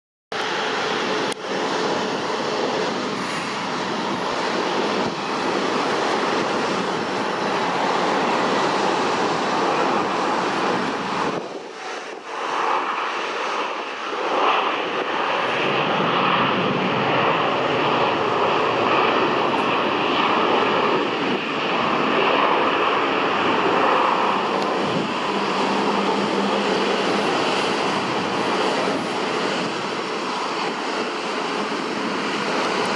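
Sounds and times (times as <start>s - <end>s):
jet engines of landing airliner: 0.3s - 32.9s.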